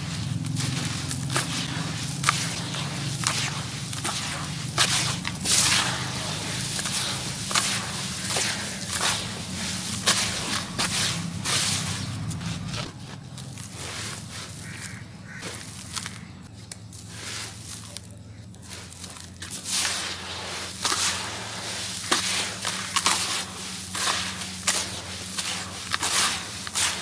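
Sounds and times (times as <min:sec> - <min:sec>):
hands crumbling damp gritty sand: 0:00.0 - 0:27.0.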